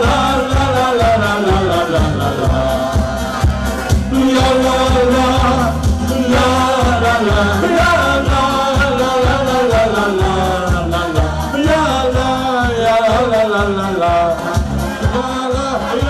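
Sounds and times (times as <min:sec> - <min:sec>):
fast dance beat: 0:00.0 - 0:16.0
men singing into microphones: 0:00.0 - 0:16.0.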